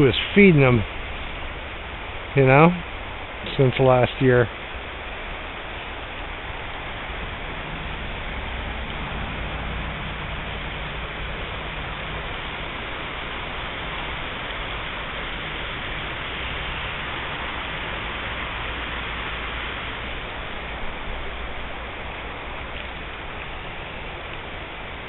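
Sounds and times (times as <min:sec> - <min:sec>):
river water over rocks: 0:00.0 - 0:25.0.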